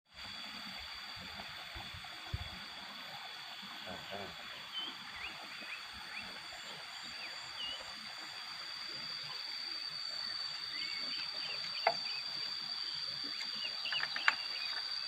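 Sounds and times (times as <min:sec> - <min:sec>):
high insect drone: 0:00.1 - 0:15.0.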